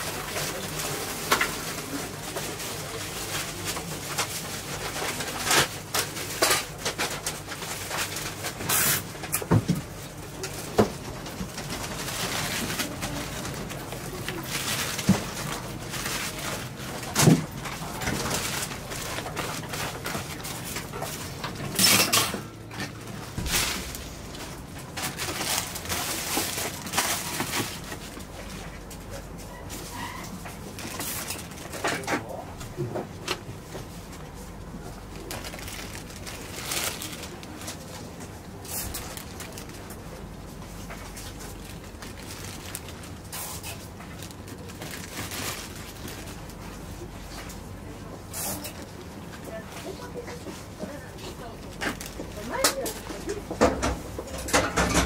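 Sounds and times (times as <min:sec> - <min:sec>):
plastic bags crinkling: 0:00.0 - 0:09.2, 0:09.9 - 0:29.0, 0:29.8 - 0:32.4, 0:34.2 - 0:47.3
plastic rustling: 0:00.0 - 0:54.8
steady low hum: 0:06.3 - 0:52.5.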